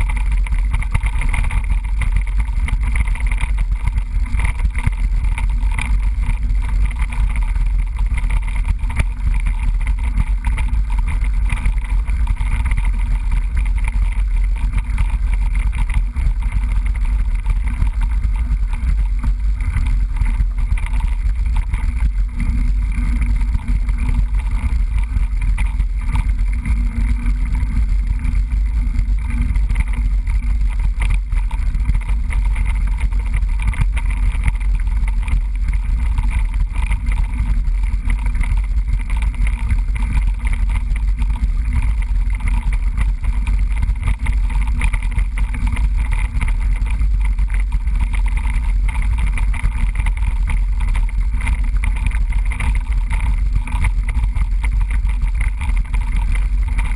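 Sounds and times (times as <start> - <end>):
low wind rumble: 0.0 - 56.9
mountain bike rattling on rough trail: 0.0 - 56.9.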